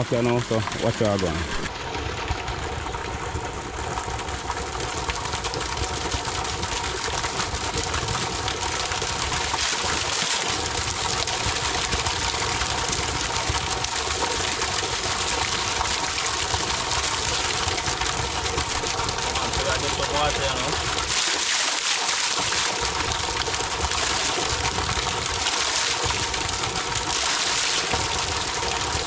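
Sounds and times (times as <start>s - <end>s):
spring water rushing and splashing: 0.0s - 29.0s.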